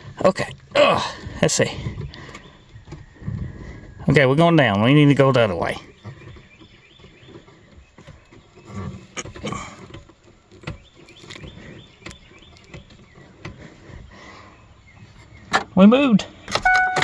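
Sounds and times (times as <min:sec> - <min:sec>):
clicks and rustles under dashboard: 0:00.0 - 0:03.9, 0:05.0 - 0:15.8
faint birds chirping: 0:00.0 - 0:17.0.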